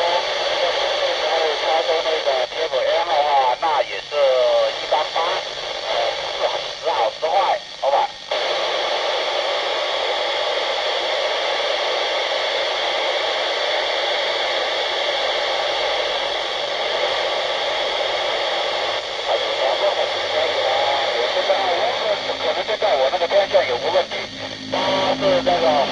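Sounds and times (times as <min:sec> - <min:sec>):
weak voice over radio: 0:00.0 - 0:08.9, 0:10.8 - 0:25.9
radio static hiss: 0:00.0 - 0:25.9.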